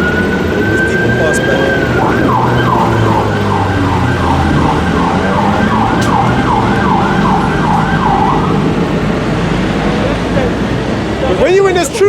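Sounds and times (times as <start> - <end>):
siren yelping: 0.0 - 9.8
street traffic rumble: 0.0 - 12.0.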